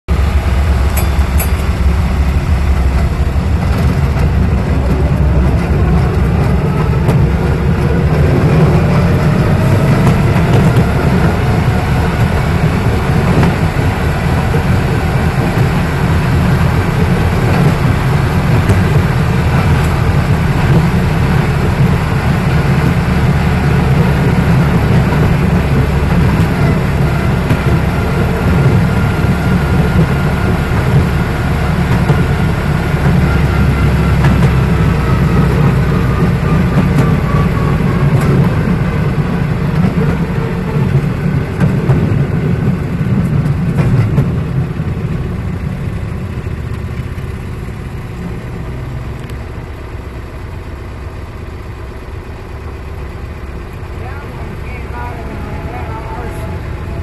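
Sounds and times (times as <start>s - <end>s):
rising whine: 0.0s - 50.4s
rail motor car engine and wheel drone: 0.0s - 57.0s.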